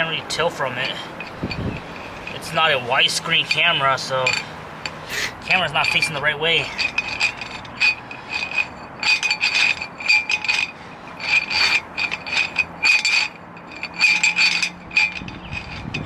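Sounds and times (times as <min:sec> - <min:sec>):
metal drain cable clicking and rattling: 0:00.3 - 0:16.0.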